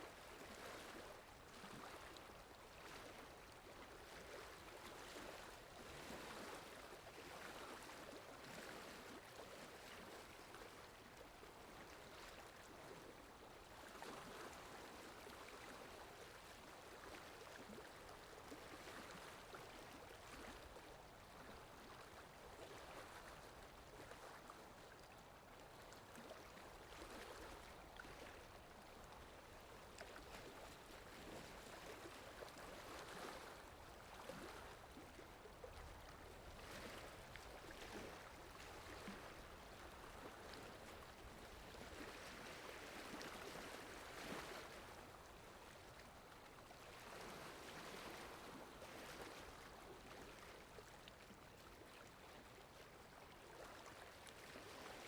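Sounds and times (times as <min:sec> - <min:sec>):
faint flowing water: 0:00.0 - 0:55.0.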